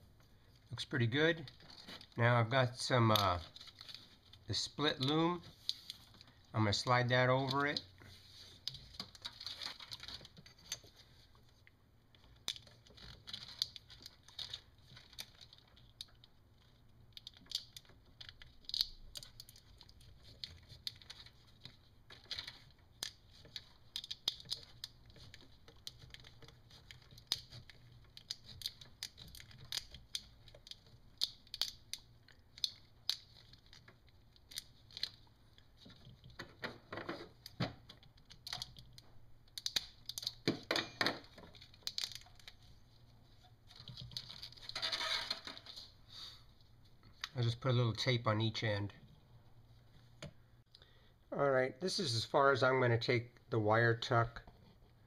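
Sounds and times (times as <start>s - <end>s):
plastic loom crinkling and clicking: 0.6s - 46.0s.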